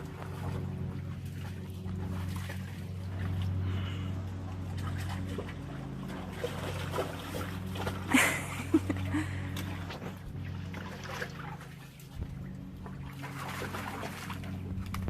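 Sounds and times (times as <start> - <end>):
low hum: 0.0 - 15.0
water sloshing and splashing: 0.0 - 15.0.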